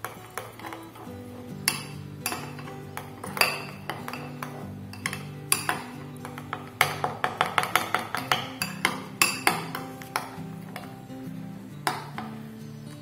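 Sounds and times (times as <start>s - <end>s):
spoon clinking against ceramic bowl: 0.0s - 11.0s
background music with low notes: 0.0s - 13.0s.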